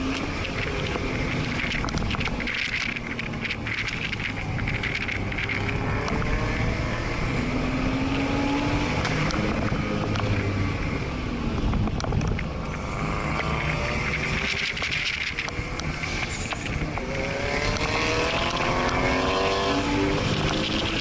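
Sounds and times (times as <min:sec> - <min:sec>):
car engine revving: 0:00.0 - 0:21.0
road and tyre noise: 0:00.0 - 0:21.0.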